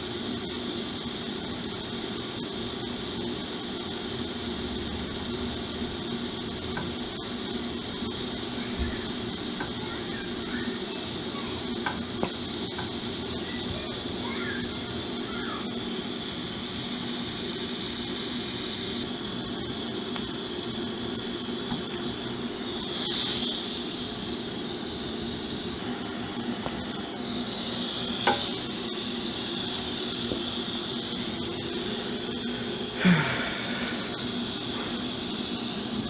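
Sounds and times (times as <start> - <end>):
welding arc hiss and buzz: 0.0 - 36.0.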